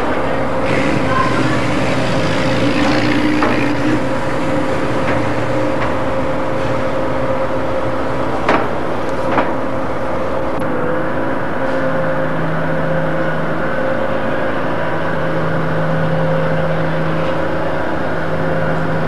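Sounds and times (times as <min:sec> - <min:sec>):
ferry machinery hum: 0:00.0 - 0:19.0.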